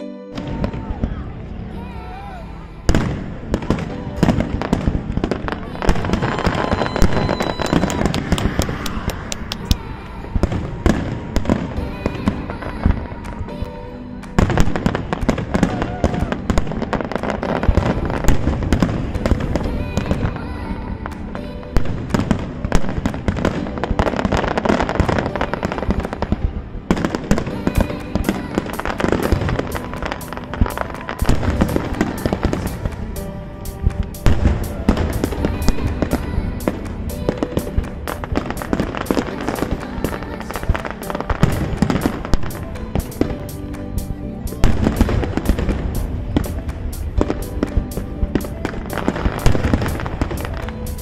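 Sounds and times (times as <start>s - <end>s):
music playing: 0.0s - 51.0s
fireworks bursting and crackling: 0.4s - 51.0s.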